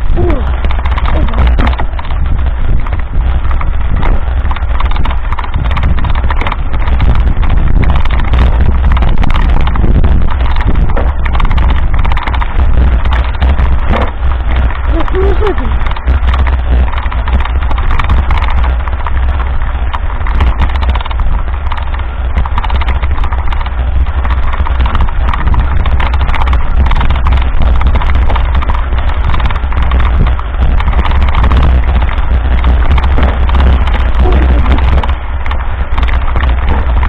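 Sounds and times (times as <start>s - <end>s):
bike rattling on dirt road: 0.0s - 37.0s
low rumble: 0.0s - 37.0s.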